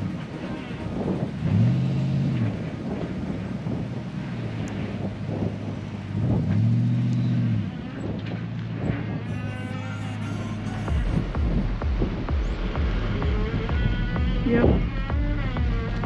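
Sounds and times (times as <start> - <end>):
car engine running at low revs: 0.0 - 16.0.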